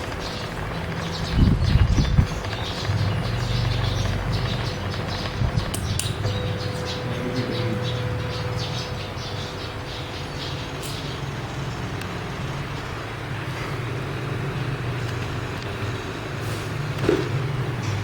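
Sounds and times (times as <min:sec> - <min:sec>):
drilling machine droning: 0:00.0 - 0:18.0.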